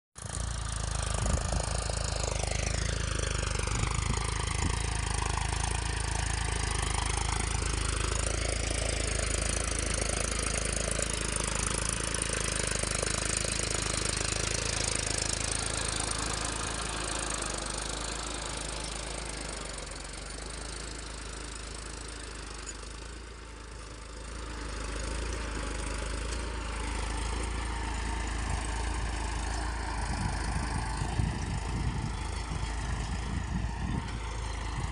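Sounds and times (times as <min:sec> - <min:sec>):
tractor diesel engine humming: 0:00.2 - 0:34.9.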